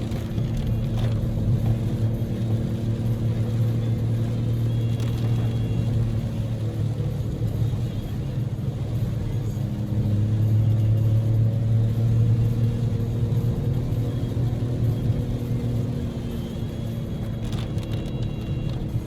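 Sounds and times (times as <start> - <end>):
car engine drone in cabin: 0.0 - 19.0
road noise: 0.0 - 19.0.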